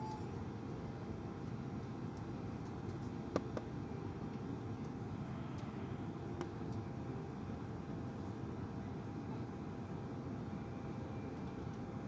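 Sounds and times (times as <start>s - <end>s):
low hum of aircraft cabin: 0.0s - 12.0s.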